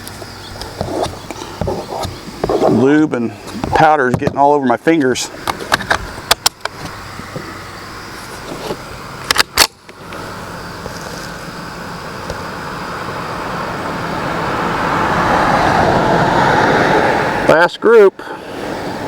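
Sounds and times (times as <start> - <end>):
road vehicle approaching: 0.0 - 19.0.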